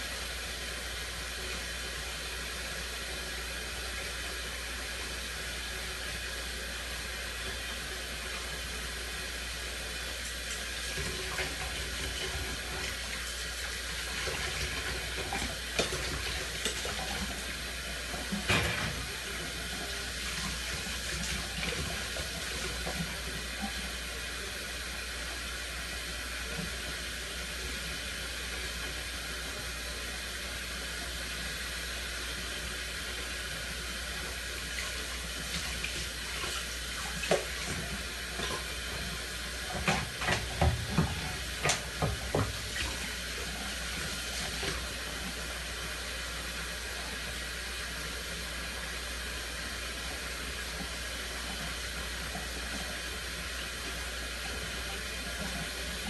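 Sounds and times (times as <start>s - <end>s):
tap water running into sink: 0.2s - 56.0s.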